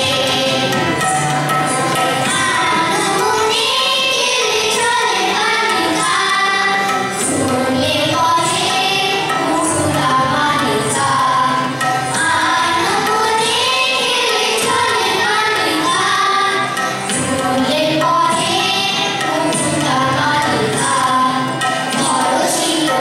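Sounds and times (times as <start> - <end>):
children and women singing in unison: 0.0 - 23.0
harmonium: 0.0 - 23.0
tabla: 0.0 - 23.0.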